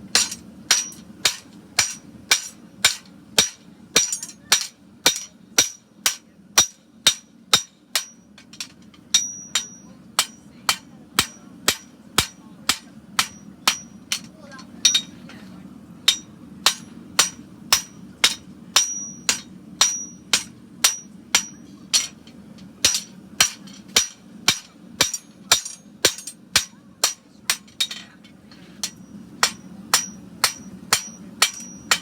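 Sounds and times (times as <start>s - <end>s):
hammer striking horseshoe on anvil: 0.1s - 15.4s, 16.0s - 32.0s.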